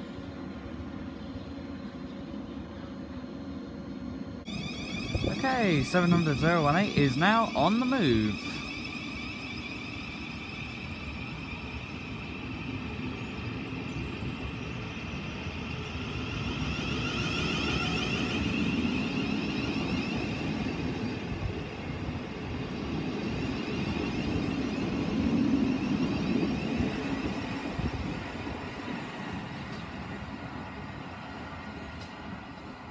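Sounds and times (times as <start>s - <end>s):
electric train whine: 0.0s - 32.9s
wheels rumbling on rails: 4.4s - 32.9s.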